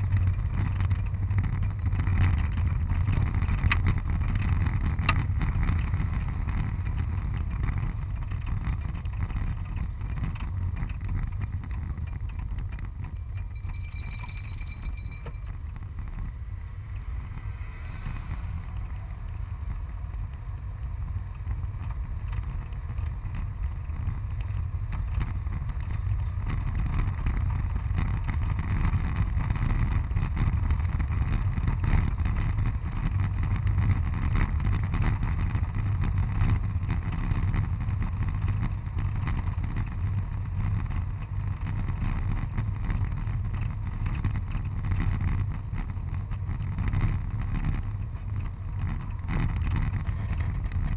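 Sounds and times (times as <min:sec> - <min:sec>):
van engine and road rumble: 0:00.0 - 0:50.9.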